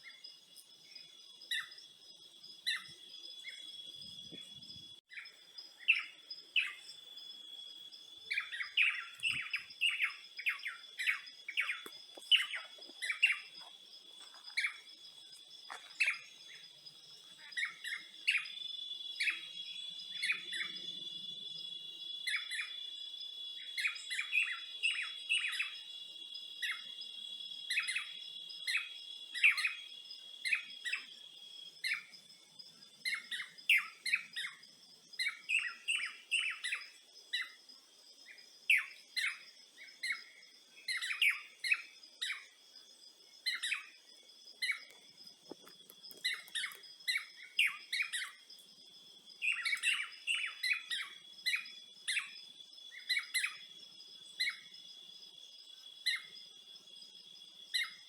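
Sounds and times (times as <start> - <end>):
birds chirping: 0.0 - 48.6, 49.2 - 54.8.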